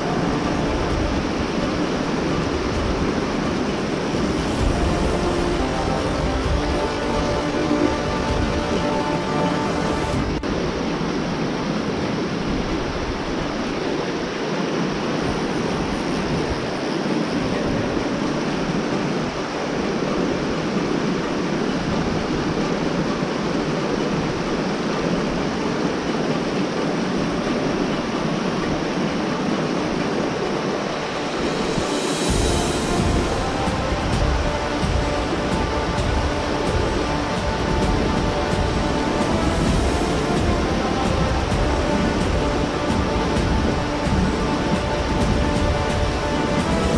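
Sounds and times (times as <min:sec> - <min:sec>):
creek water rushing over rocks: 0:00.0 - 0:46.9.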